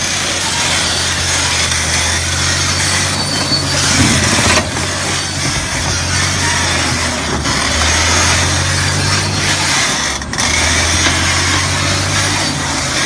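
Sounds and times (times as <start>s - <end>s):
dozer diesel engine running: 0.0s - 13.0s.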